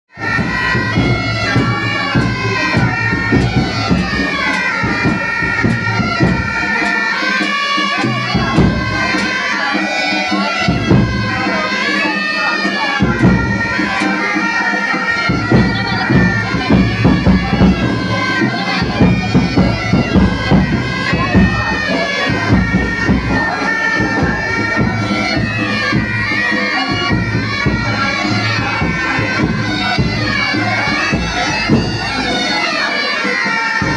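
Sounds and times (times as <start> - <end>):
beating drum: 0.1 - 33.9
shrill reed pipe melody: 0.1 - 33.9.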